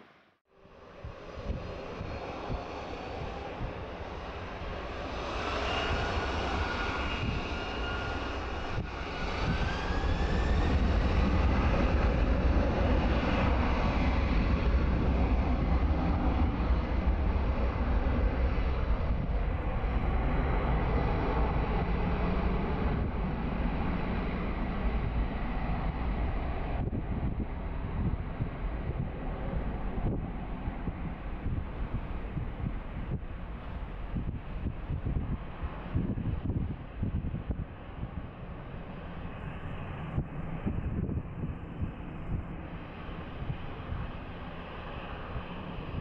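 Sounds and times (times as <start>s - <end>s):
jet engine noise: 0.6s - 46.0s.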